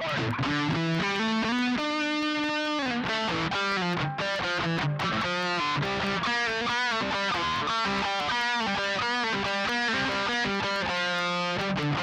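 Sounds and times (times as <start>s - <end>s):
electric guitar lead notes: 0.0s - 12.0s.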